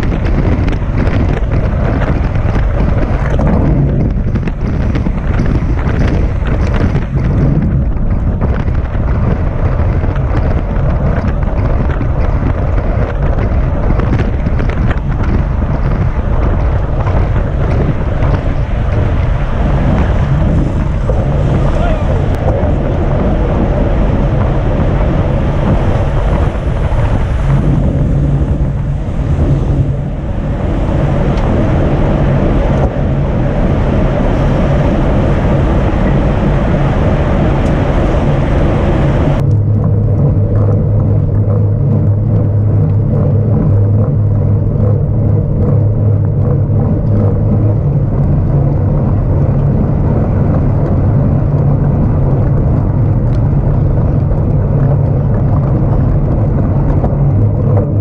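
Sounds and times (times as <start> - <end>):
low steady hum: 0.0 - 58.0
road and wind noise: 0.0 - 58.0.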